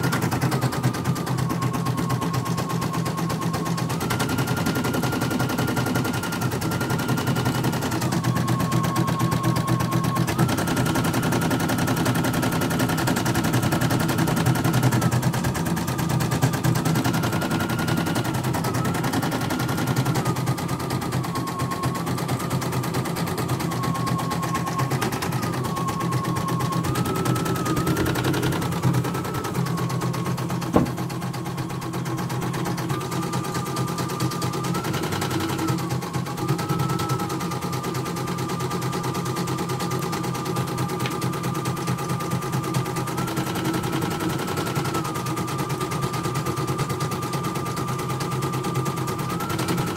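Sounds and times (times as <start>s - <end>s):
embroidery machine stitching: 0.0s - 49.9s.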